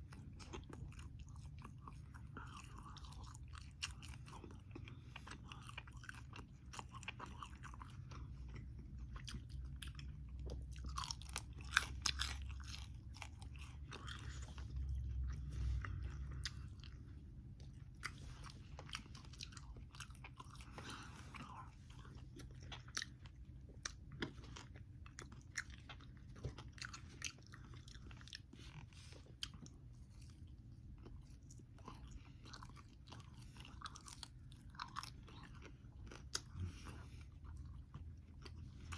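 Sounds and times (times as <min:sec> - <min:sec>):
chewing crispy bacon: 0:00.0 - 0:38.9
low steady hum: 0:00.0 - 0:38.9.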